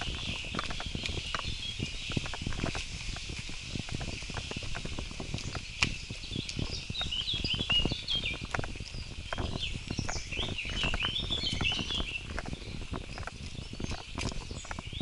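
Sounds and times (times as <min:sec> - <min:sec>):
birds chirping: 0:00.0 - 0:15.0
running footsteps on dirt: 0:00.0 - 0:15.0.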